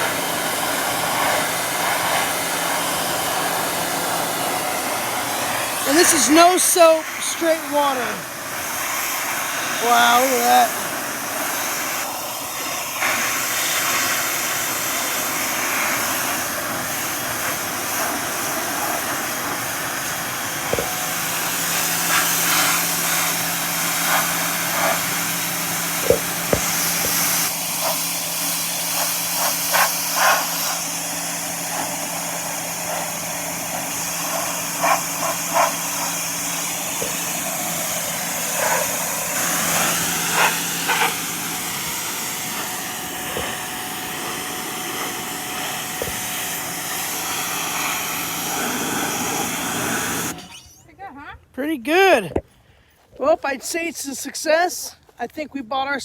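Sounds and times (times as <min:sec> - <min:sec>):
pressure washer jet hissing: 0:00.0 - 0:50.8
pump motor humming: 0:00.0 - 0:50.9.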